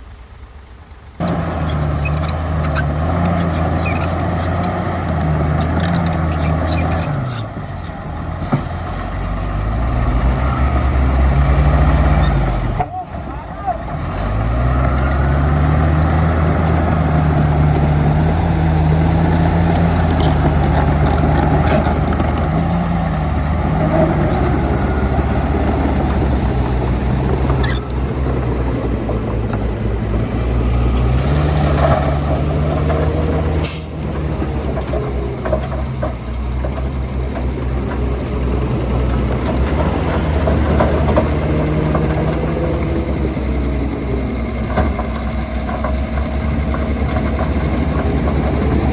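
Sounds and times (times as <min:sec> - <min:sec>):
heavy diesel engine under load: 0:00.0 - 0:48.9.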